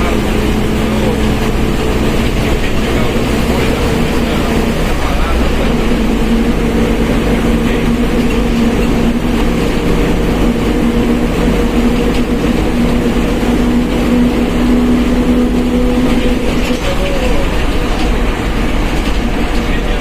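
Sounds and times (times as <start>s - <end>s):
bus engine running: 0.0s - 20.0s
differential whine: 0.0s - 20.0s.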